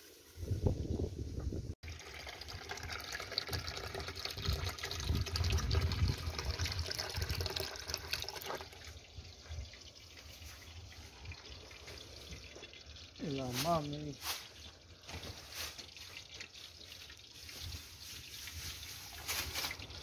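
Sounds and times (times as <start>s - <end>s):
water running: 1.8s - 20.0s.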